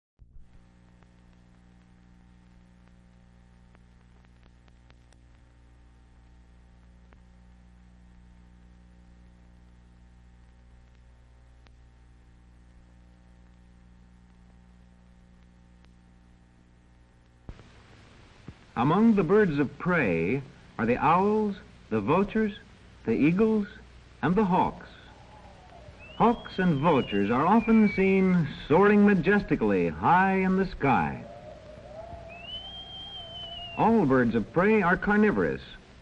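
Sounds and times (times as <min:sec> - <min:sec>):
faint steady hum: 0:00.2 - 0:36.0
low hiss: 0:00.2 - 0:36.0.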